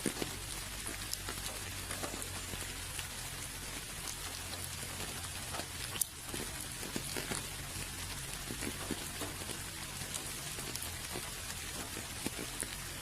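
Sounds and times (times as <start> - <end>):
sharp raindrop: 0.0 - 13.0
steady rainfall: 0.0 - 13.0.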